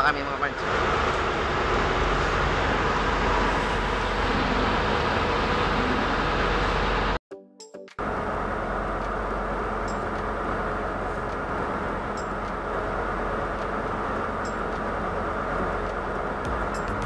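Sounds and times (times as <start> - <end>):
boat engine running: 0.0 - 7.2, 8.0 - 17.0.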